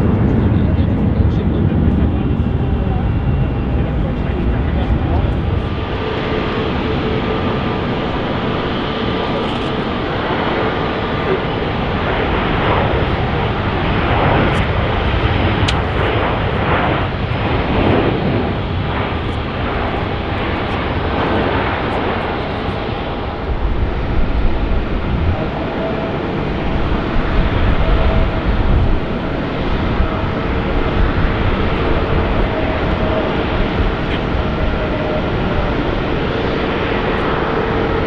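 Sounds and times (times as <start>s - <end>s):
airliner deep rumble with whine: 0.0s - 38.0s
airliner jet engines: 0.0s - 38.0s.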